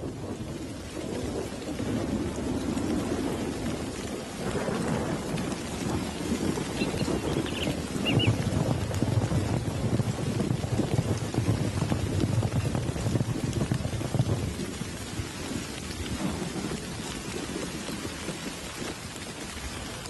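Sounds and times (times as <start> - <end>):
heavy rain pouring: 0.0 - 20.0
rolling thunder rumble: 0.0 - 20.0.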